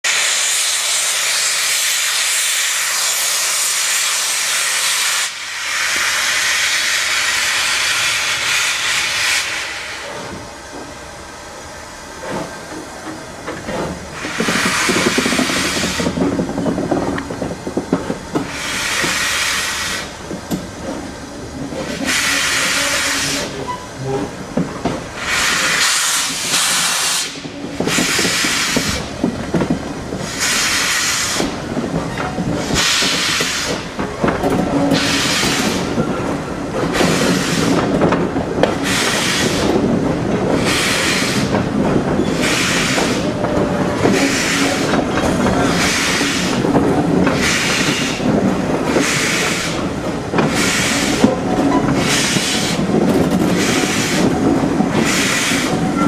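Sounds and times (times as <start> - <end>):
steam hissing: 0.0 - 56.0
train rumbling on rails: 0.0 - 56.0.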